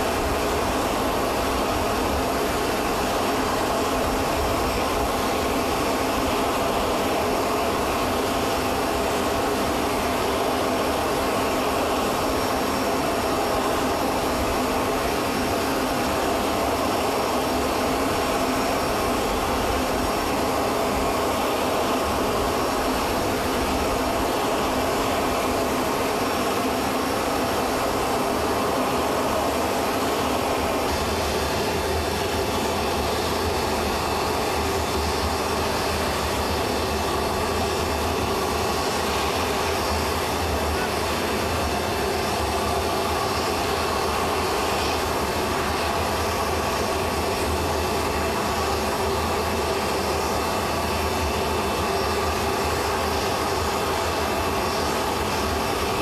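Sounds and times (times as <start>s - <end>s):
jet turbine roar with whine: 0.0s - 56.0s.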